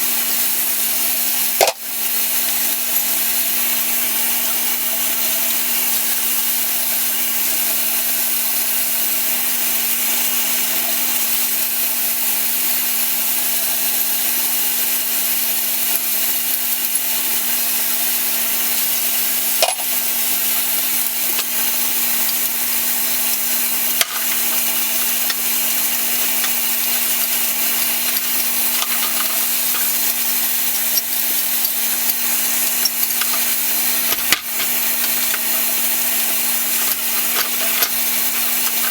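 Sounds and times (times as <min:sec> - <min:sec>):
machine hissing and humming: 0:00.0 - 0:38.9.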